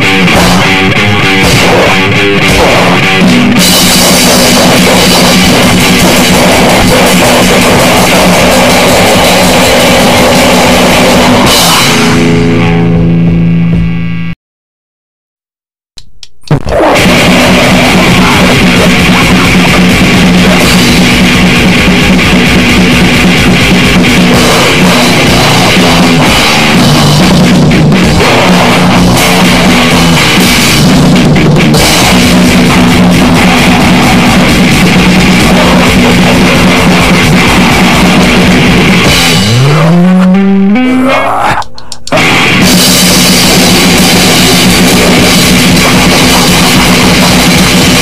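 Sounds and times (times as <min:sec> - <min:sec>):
pounding drum kit: 0:00.0 - 0:13.8, 0:16.4 - 0:40.8, 0:41.5 - 0:48.0
distorted guitar chords: 0:00.0 - 0:14.4, 0:16.2 - 0:48.0.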